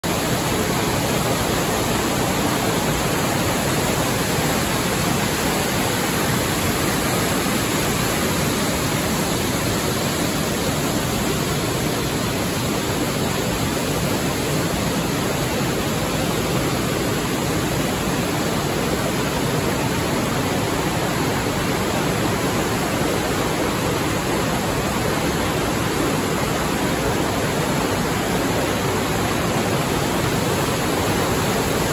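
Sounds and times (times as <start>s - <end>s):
river rushing over rocks: 0.0s - 31.9s.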